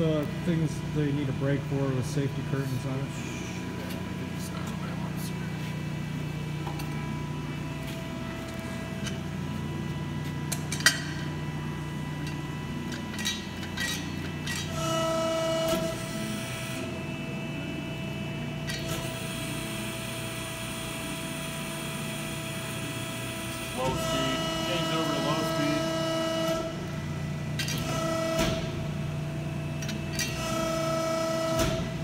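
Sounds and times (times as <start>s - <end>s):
hydraulic system humming: 0.0s - 32.0s
hydraulic whine: 5.4s - 32.0s.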